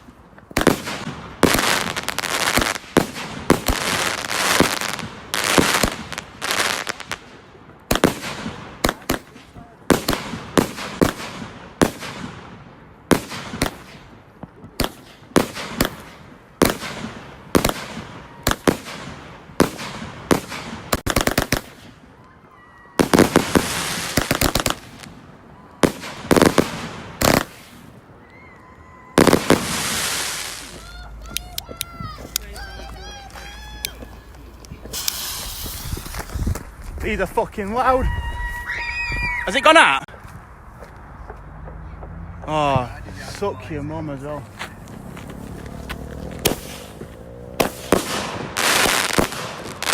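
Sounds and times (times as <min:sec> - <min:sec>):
fireworks banging: 0:00.0 - 0:22.2, 0:22.8 - 0:28.2, 0:28.9 - 0:38.1, 0:38.9 - 0:49.9
rapid firework cracks: 0:00.0 - 0:22.2, 0:23.0 - 0:28.1, 0:29.2 - 0:37.1, 0:44.7 - 0:49.9.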